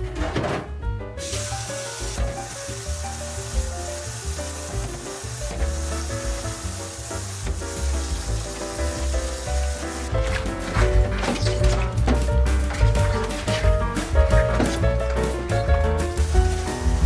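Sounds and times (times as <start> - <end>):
light background music: 0.0 - 17.0.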